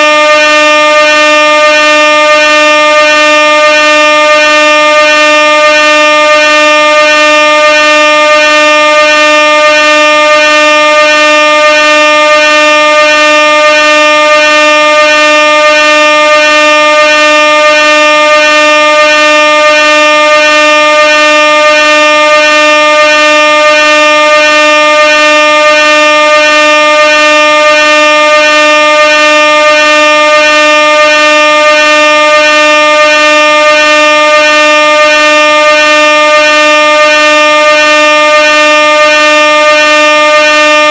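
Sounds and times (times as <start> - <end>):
air horn blast: 0.0 - 40.9.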